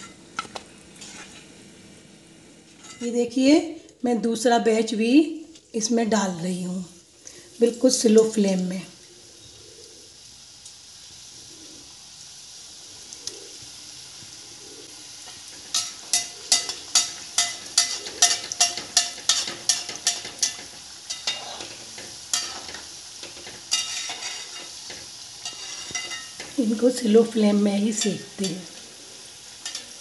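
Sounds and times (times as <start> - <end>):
oil sizzling: 0.0 - 3.6, 5.0 - 30.0.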